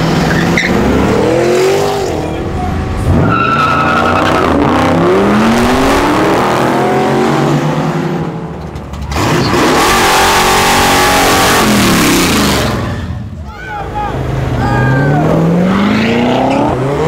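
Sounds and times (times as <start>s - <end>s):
car engines accelerating hard: 0.0s - 17.0s.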